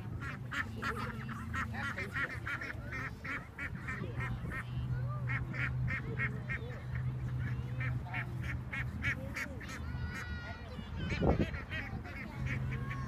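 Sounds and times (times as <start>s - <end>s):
ducks quacking: 0.0s - 13.0s
low steady hum: 0.0s - 13.0s.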